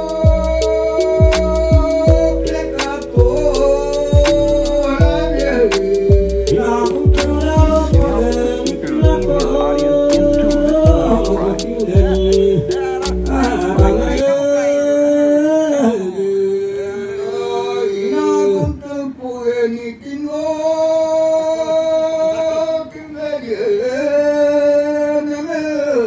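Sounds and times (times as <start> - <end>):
men singing into microphones: 0.0 - 26.0.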